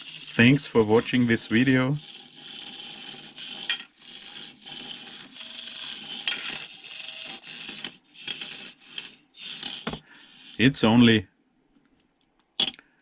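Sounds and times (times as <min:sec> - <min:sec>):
toy car electric motor whirring: 0:00.0 - 0:10.8.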